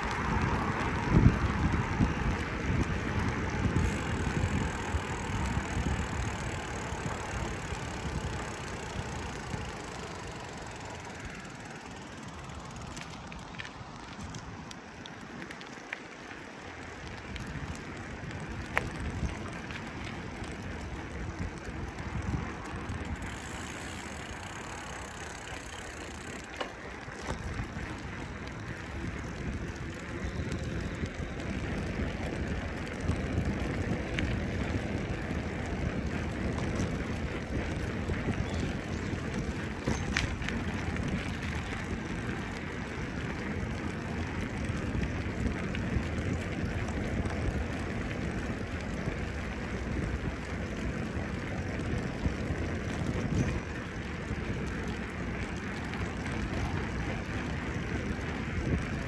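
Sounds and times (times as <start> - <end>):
bicycle tyres rolling: 0.0 - 59.0
bike rattling: 0.0 - 59.0.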